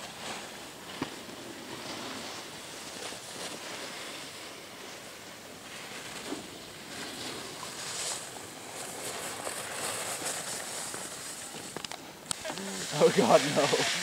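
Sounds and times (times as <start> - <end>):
outdoor wind hiss: 0.0 - 14.0.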